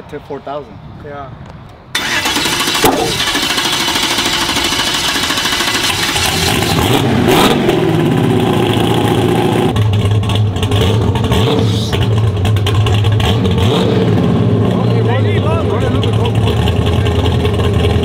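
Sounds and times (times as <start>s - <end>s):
truck engine at full throttle: 2.0s - 18.0s.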